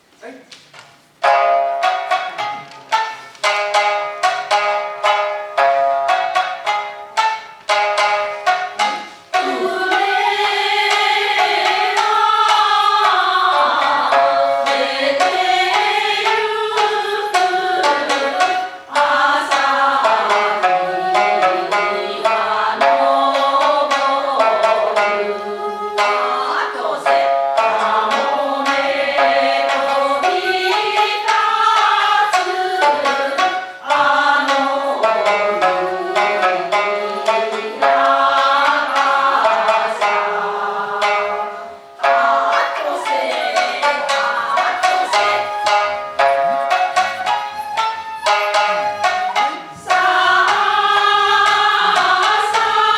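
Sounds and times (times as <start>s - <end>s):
plucked shamisen: 0.0s - 52.9s
folk singing: 1.2s - 52.9s.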